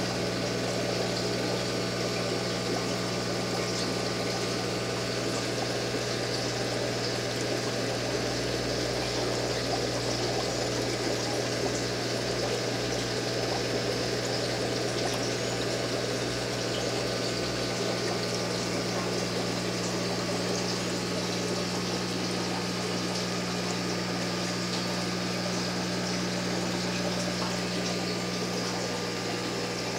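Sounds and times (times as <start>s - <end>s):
aquarium pump humming: 0.0s - 29.9s.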